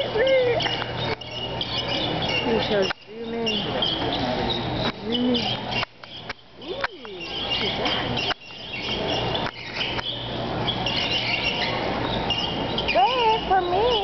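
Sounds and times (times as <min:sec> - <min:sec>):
squeaky shopping cart wheel: 0:00.0 - 0:05.8, 0:07.2 - 0:14.0.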